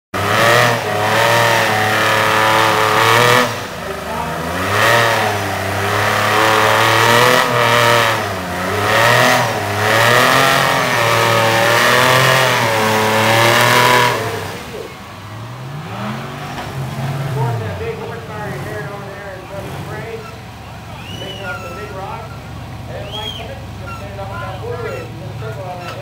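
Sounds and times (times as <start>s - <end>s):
buggy engine revving hard: 0.1s - 26.0s.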